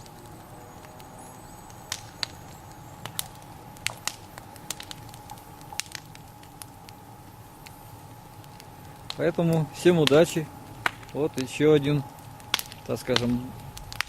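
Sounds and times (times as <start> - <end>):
campfire crackling and popping: 0.0 - 14.0
low steady rush: 0.0 - 14.0.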